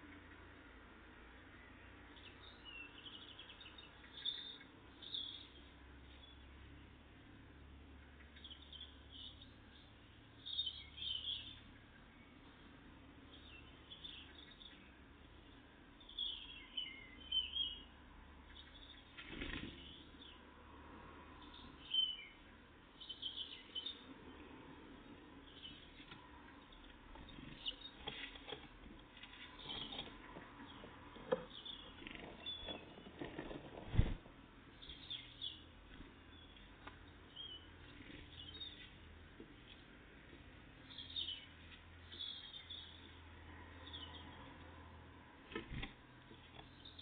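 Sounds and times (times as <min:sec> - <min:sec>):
birds chirping: 0:01.5 - 0:07.1, 0:07.9 - 0:20.5, 0:21.4 - 0:44.8, 0:45.7 - 0:47.0.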